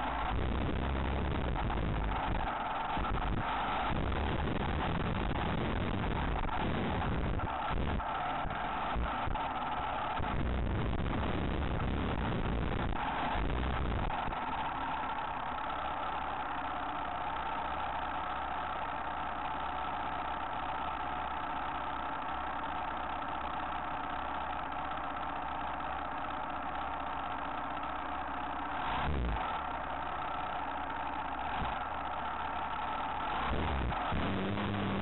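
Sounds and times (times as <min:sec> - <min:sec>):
motorcycle engines idling: 0:00.0 - 0:28.8, 0:29.4 - 0:35.0.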